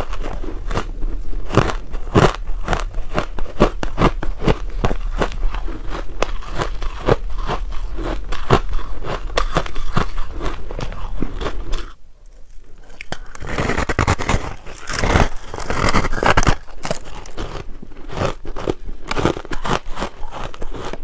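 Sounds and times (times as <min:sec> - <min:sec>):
ice crunching in mouth: 0:00.0 - 0:21.0.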